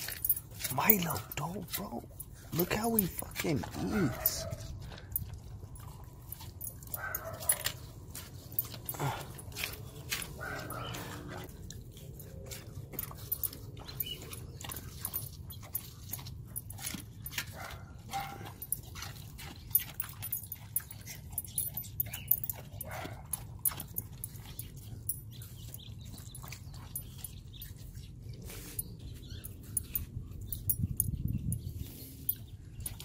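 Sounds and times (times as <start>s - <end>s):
dogs chewing wetly: 0.0s - 33.0s.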